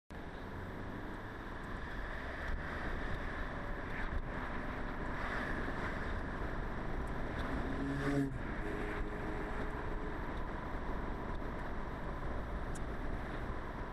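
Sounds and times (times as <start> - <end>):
car road and engine drone: 0.1 - 13.9.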